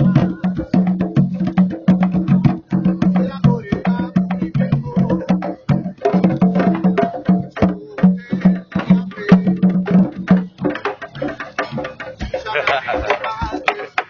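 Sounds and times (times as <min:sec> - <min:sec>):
hand drumming: 0:00.0 - 0:14.0.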